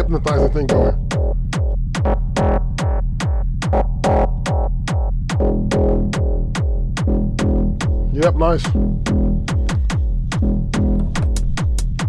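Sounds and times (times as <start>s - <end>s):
closed hi-hats ticking: 0.0s - 12.0s
kick drum beat: 0.0s - 12.0s.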